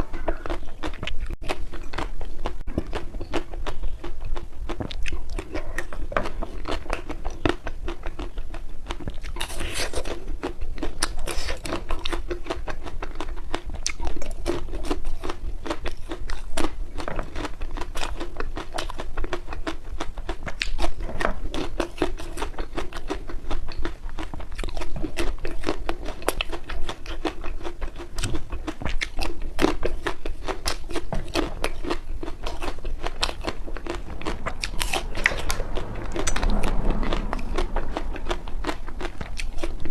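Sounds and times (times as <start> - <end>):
person crunching ice cream: 0.0 - 39.9.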